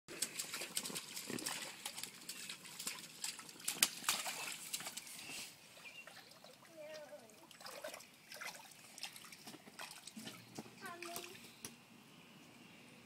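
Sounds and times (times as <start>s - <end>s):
feet splashing water in paddling pool: 0.1s - 11.5s.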